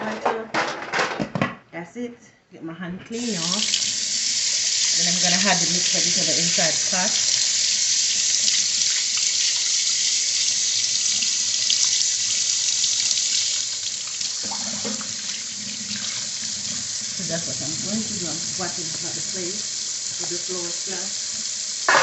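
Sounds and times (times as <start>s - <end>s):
tap water running into sink: 3.1s - 22.0s.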